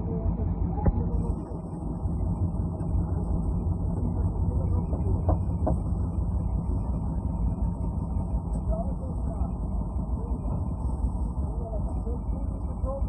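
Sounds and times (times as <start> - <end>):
concrete mixer engine droning: 0.0 - 13.0.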